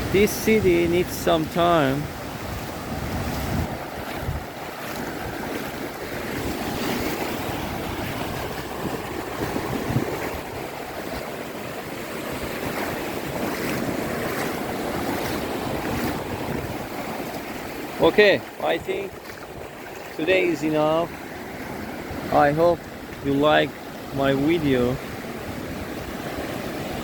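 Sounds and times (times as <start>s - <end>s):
sea waves washing onto beach: 0.0s - 27.0s
wind buffeting microphone: 0.0s - 27.0s.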